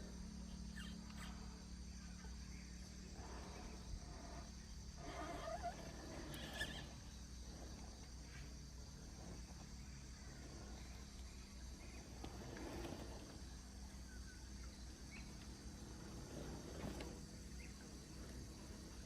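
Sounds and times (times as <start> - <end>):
insect drone: 0.0 - 19.0
rustles: 0.2 - 19.0.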